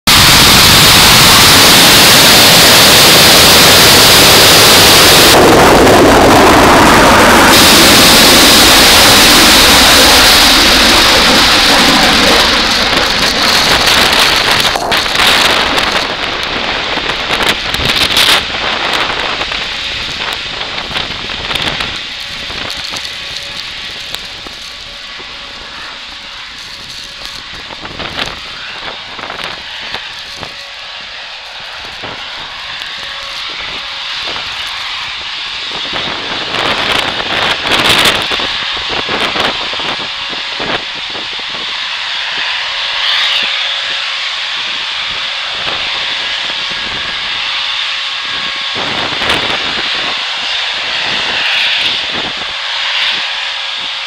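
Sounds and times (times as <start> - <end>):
rocket engine rumble: 0.1 - 54.0.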